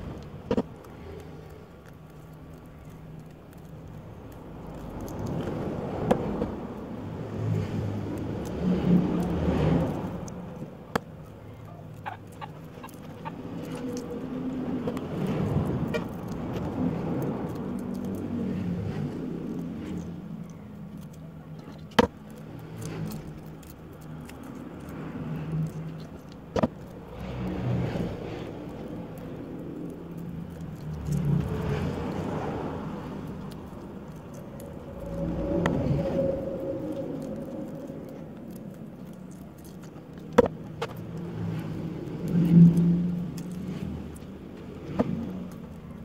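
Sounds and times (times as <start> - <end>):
vehicle engines passing: 0.0 - 46.0.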